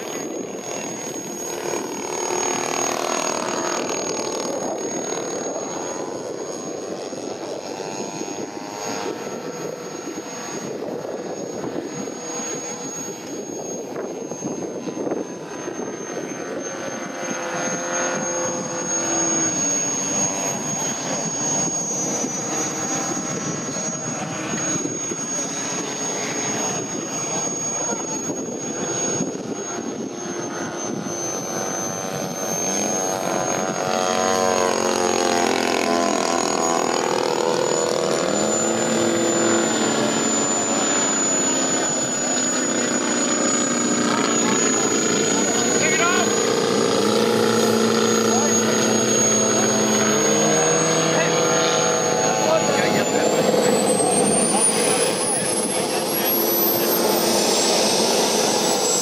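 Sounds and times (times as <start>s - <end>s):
model airplane engine and propeller: 0.0s - 59.0s.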